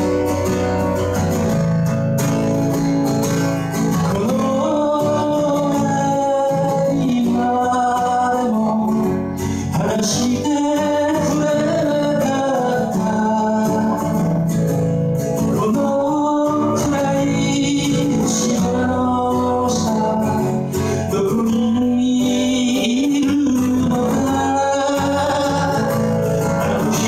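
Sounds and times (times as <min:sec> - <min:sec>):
acoustic guitar: 0:00.0 - 0:27.0
man singing into a microphone: 0:03.9 - 0:27.0.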